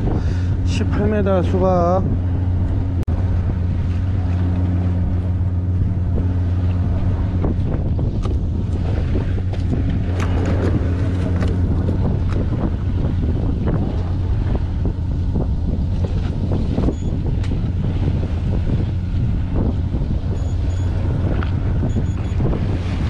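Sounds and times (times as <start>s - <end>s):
boat motor humming: 0.0s - 23.0s
wind on microphone: 0.0s - 23.0s.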